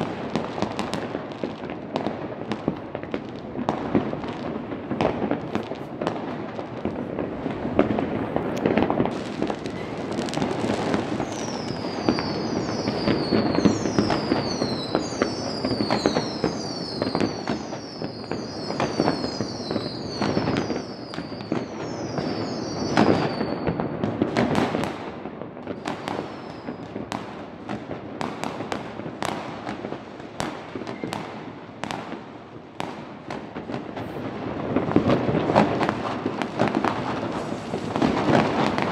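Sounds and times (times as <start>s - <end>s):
fireworks and firecrackers banging: 0.0s - 38.9s
whistling fireworks: 0.0s - 38.9s.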